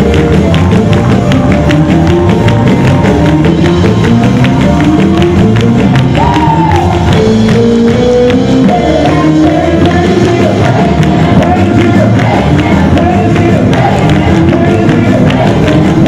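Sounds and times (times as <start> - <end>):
drum kit beat: 0.0 - 16.0
gospel band playing: 0.0 - 16.0.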